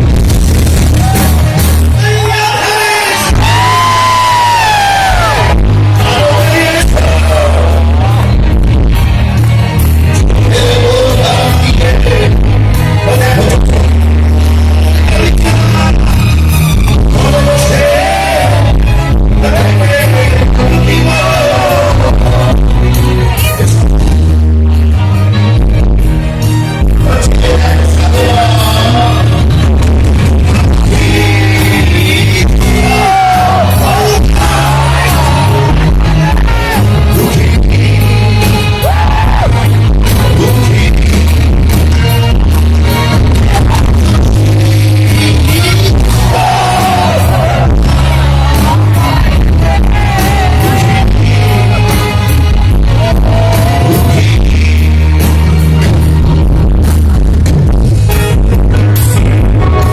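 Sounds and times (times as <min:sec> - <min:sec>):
heavy boomy bass: 0:00.0 - 0:59.9
live rock band playing: 0:00.0 - 0:59.9
man singing long notes: 0:01.0 - 0:08.6, 0:10.1 - 0:23.8, 0:26.9 - 0:29.6, 0:30.7 - 0:42.5, 0:43.3 - 0:56.7.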